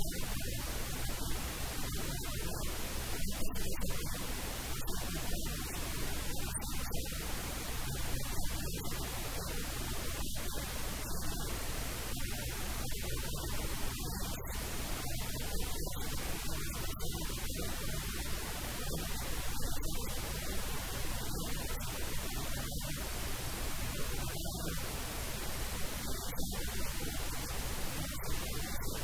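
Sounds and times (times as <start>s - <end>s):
static hiss: 0.0s - 29.0s.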